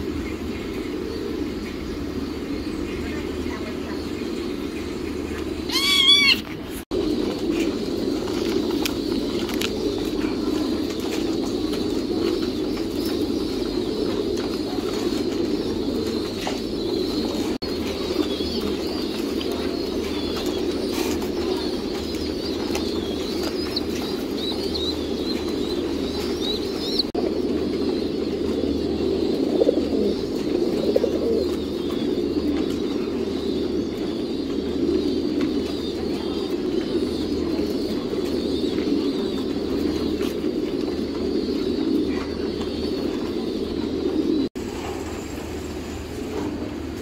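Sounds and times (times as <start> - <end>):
pigeons cooing: 0.0 - 47.0.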